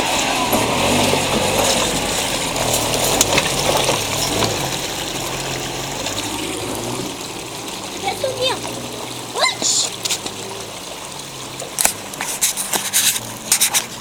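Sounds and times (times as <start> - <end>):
vehicle engine running: 0.0 - 14.0
water splashing around vehicle: 0.0 - 14.0.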